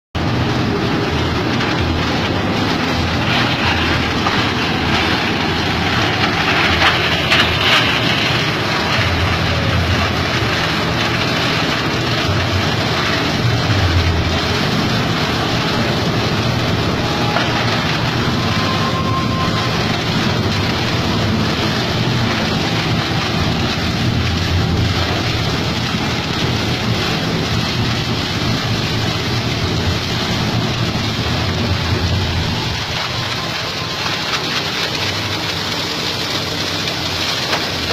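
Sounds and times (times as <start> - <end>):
diesel engine rumble: 0.1 - 37.9
shredder clatter: 0.2 - 37.9.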